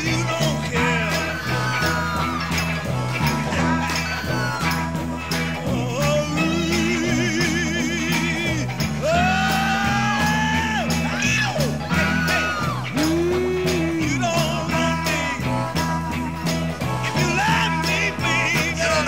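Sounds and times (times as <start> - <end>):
blues band playing: 0.0 - 19.0
person singing: 0.0 - 19.0
sliding lead guitar notes: 0.0 - 19.0.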